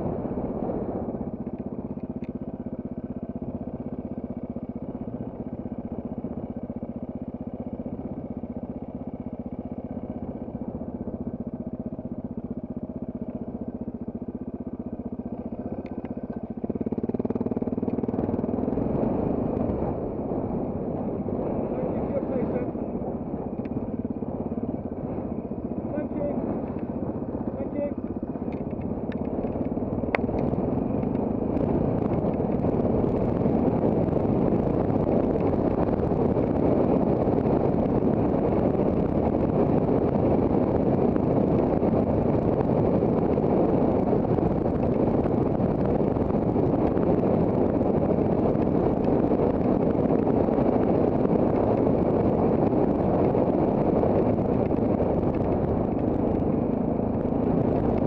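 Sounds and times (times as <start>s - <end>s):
wind rushing over microphone: 0.0s - 5.8s, 15.2s - 58.0s
motorcycle engine running: 0.0s - 58.0s.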